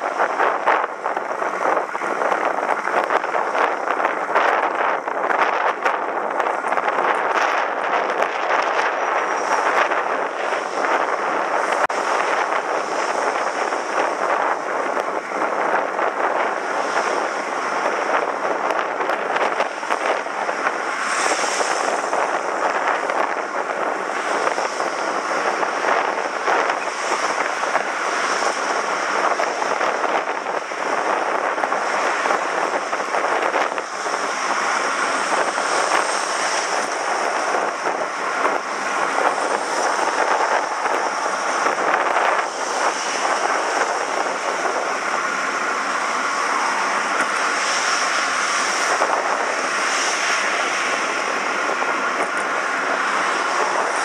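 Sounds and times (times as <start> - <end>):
road noise: 0.0 - 54.0
wind rushing: 0.0 - 54.0.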